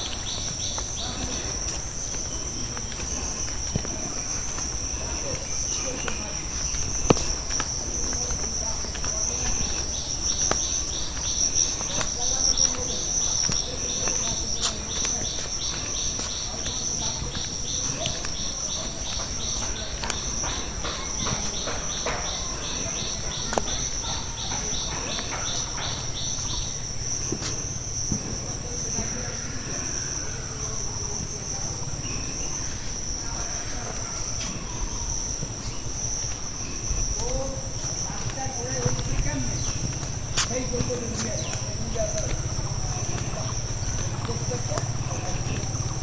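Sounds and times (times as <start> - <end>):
insect chirping in pulses: 0.0 - 46.0
insects trilling: 0.0 - 46.0.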